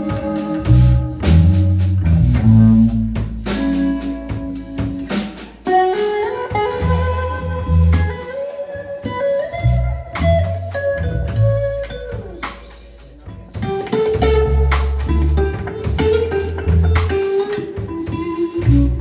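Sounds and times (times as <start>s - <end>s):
blues band playing: 0.0s - 19.0s
electric guitar line: 0.0s - 19.0s.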